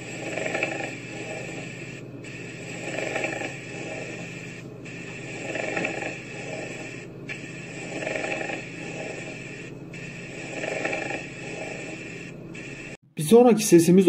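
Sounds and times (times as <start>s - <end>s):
rough rubbing with breath: 0.0s - 13.0s.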